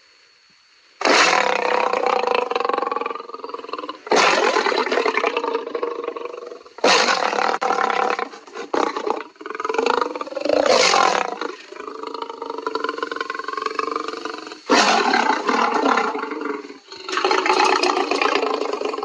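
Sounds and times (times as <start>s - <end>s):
lion growling: 1.0s - 19.0s
lion roaring: 1.0s - 19.0s.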